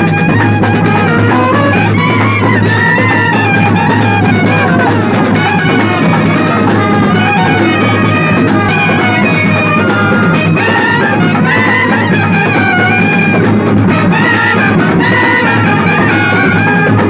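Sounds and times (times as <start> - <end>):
drums: 0.0 - 17.0
reedy wind instrument melody: 0.0 - 17.0.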